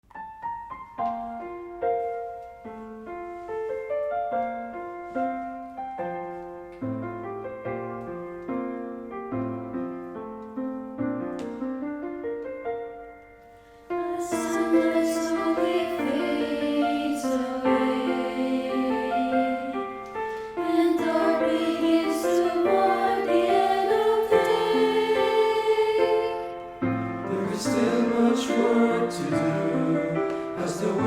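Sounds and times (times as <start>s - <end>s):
piano notes and chords: 0.0s - 31.0s.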